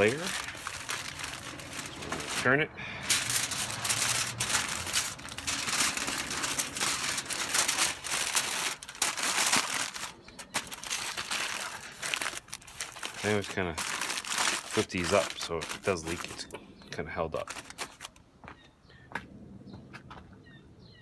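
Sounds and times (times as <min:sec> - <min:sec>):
aluminium foil crinkling: 0:00.0 - 0:16.5, 0:17.3 - 0:18.2.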